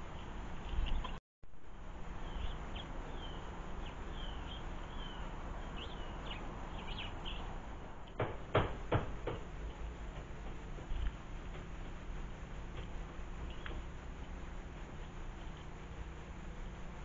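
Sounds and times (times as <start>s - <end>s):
small birds chirping: 0.0s - 1.2s, 1.9s - 16.8s
steady hiss: 0.0s - 17.0s.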